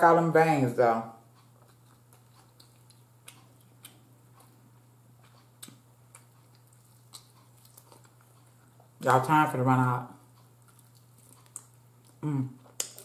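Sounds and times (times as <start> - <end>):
faint hum: 0.0 - 13.0
quiet chewing: 1.3 - 9.0, 10.2 - 13.0.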